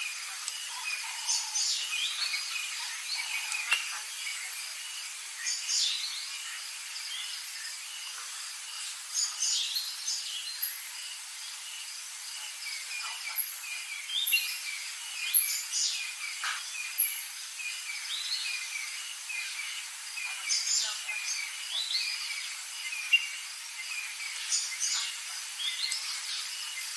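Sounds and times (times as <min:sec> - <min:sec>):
birds chirping and singing: 0:00.0 - 0:11.8, 0:12.4 - 0:26.9
insects hissing: 0:00.0 - 0:26.9.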